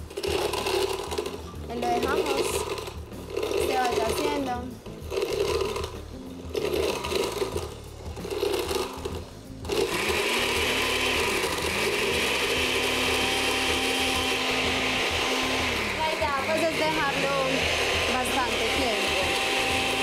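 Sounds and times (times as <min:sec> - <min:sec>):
blender whirring: 0:00.0 - 0:20.0.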